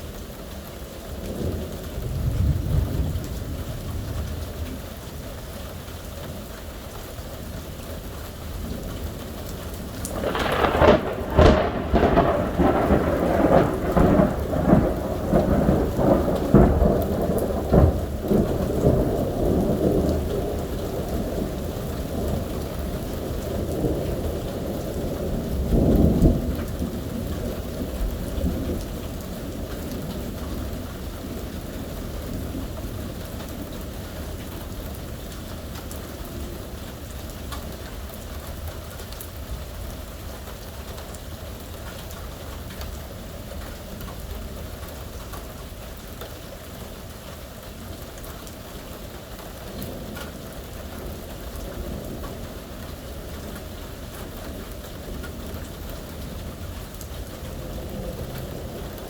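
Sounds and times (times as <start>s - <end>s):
heavy rain falling: 0.0s - 59.0s
thunder rumble: 1.2s - 5.0s, 8.5s - 45.8s, 48.5s - 59.0s.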